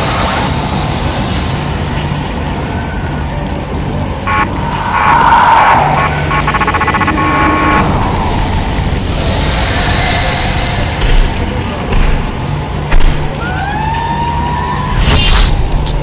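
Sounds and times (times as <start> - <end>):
rapidly pulsing tones: 0.0 - 13.4
loud steady rumble: 0.0 - 13.6
rushing noise: 0.0 - 16.0.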